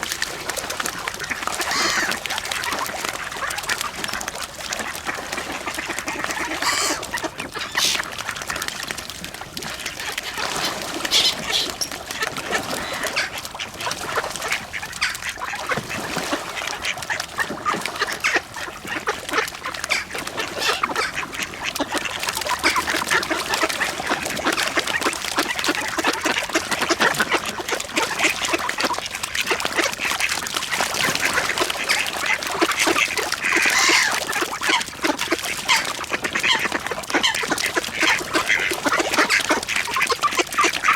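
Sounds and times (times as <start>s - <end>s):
ducks quacking: 0.8s - 8.7s, 9.7s - 40.9s.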